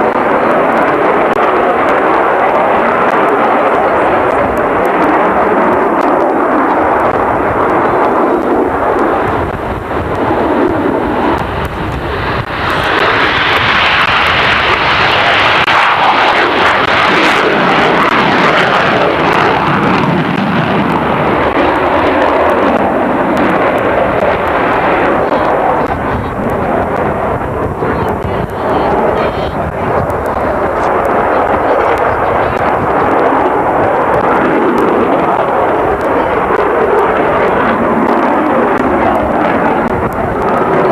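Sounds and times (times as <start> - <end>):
aircraft engines roaring: 0.0 - 40.9.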